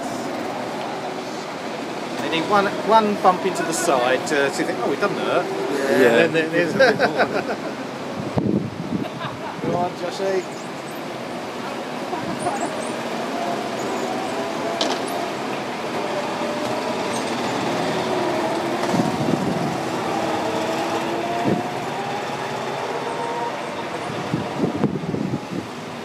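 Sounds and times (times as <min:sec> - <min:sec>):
go-kart engines revving: 0:00.0 - 0:08.2, 0:11.0 - 0:25.5.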